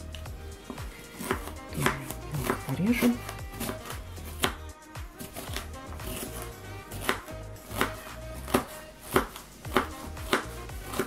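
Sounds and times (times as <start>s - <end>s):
knife chopping on plastic board: 0.6s - 4.6s, 5.2s - 11.0s.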